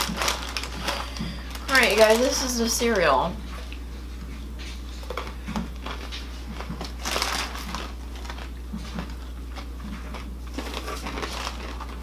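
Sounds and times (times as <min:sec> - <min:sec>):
crunchy cereal being chewed: 0:00.0 - 0:02.5, 0:04.8 - 0:12.0
bag crackling: 0:00.0 - 0:03.2, 0:05.0 - 0:12.0.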